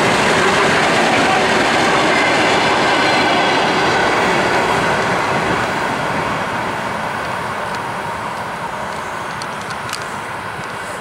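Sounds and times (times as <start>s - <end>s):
train rolling along track: 0.0s - 11.0s.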